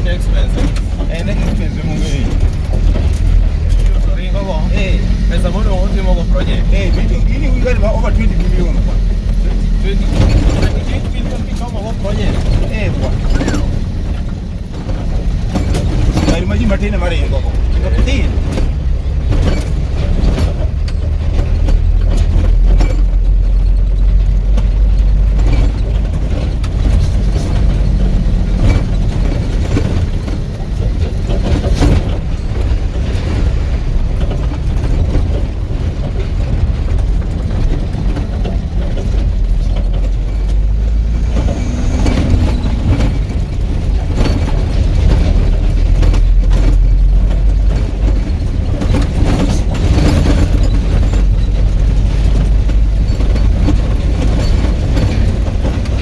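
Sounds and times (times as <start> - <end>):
rattles and knocks: 0.0 - 56.0
vehicle engine low rumble: 0.0 - 56.0.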